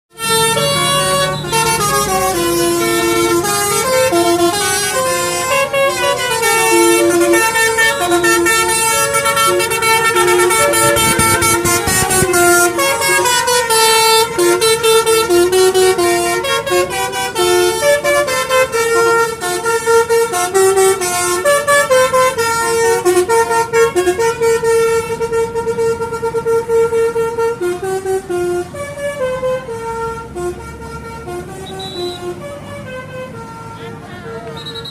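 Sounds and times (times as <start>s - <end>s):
musical air horns playing melodies: 0.1s - 34.9s.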